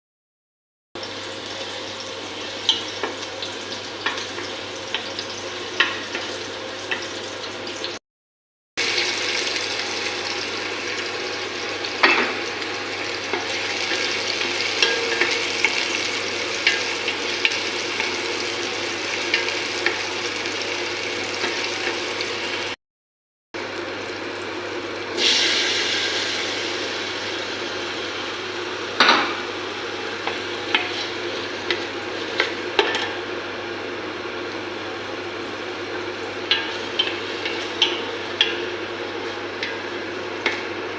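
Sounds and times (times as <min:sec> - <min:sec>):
food sizzling in a frying pan: 0:01.0 - 0:08.0, 0:08.8 - 0:22.8, 0:23.6 - 0:40.9.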